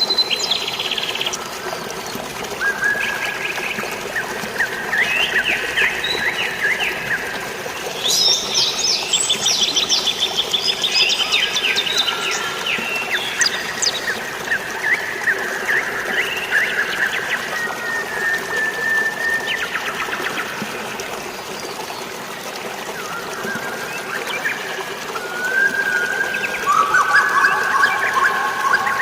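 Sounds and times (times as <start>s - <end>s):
water rushing: 0.0s - 29.0s.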